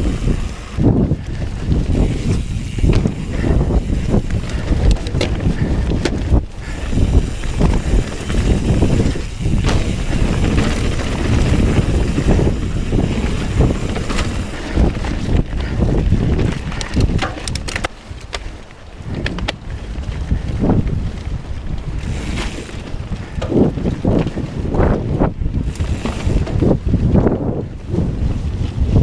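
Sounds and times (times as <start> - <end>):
bike knocks and clicks: 0.0 - 19.7, 21.9 - 27.2
mountain bike rumbling: 0.0 - 29.0
wind buffeting microphone: 0.0 - 29.0.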